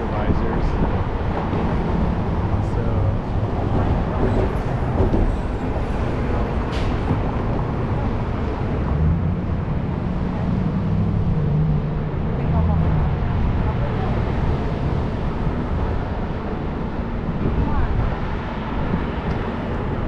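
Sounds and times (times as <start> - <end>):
low vehicle rumble: 0.0 - 20.0.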